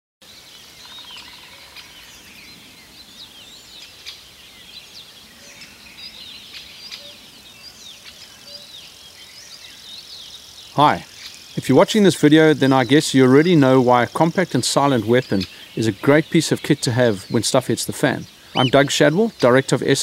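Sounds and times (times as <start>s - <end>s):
small birds chirping: 0.2s - 20.0s
faint background hiss: 0.3s - 20.0s.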